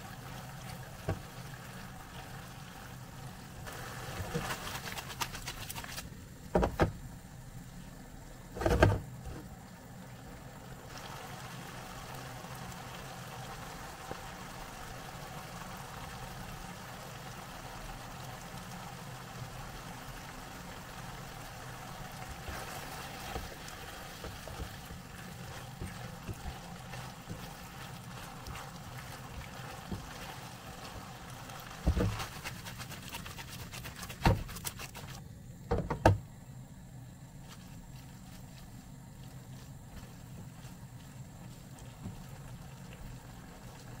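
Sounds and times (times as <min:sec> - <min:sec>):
food simmering in a pan: 0:00.0 - 0:35.2, 0:36.9 - 0:44.0.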